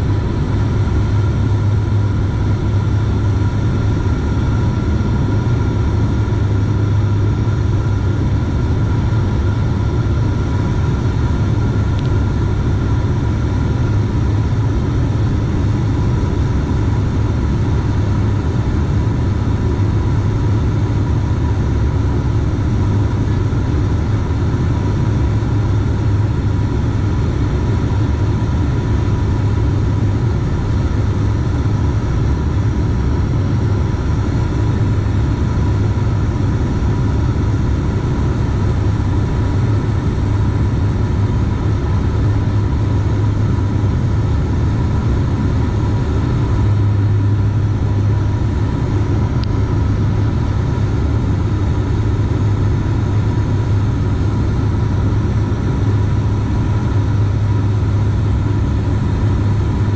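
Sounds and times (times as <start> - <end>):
propeller engine droning: 0.0 - 59.9.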